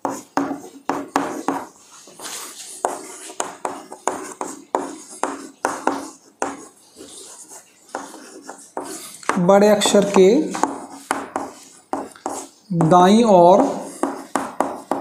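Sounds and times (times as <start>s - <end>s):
chalk scratching on chalkboard: 0.0s - 15.0s
chalk tapping on chalkboard: 0.0s - 15.0s.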